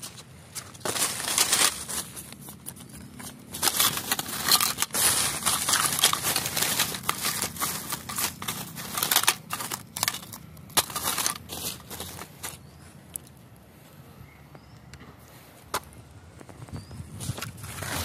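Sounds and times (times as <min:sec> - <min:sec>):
rubbish crinkling and rustling: 0:00.0 - 0:12.9, 0:16.4 - 0:18.0.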